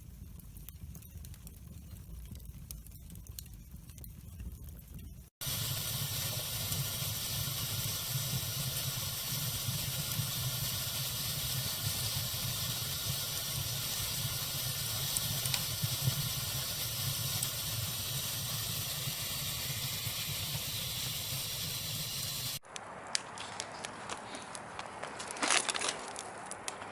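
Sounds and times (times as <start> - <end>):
fire crackles: 0.0 - 26.9
wood fire hissing and rumbling: 0.0 - 26.9.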